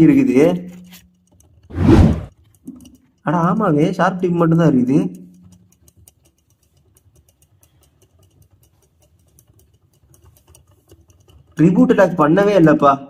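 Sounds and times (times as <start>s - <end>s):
faint rapid ticking: 0.0s - 1.7s, 2.3s - 13.0s
spinning top on plastic floor: 0.0s - 13.0s.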